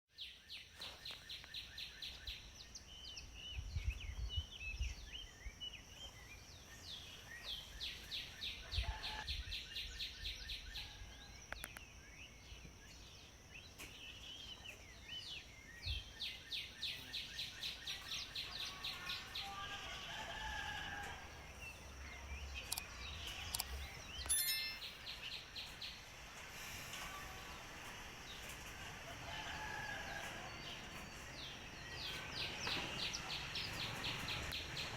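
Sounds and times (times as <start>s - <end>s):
sparrows chirping: 0.1s - 34.9s
steady high-pitched hiss: 0.2s - 34.9s.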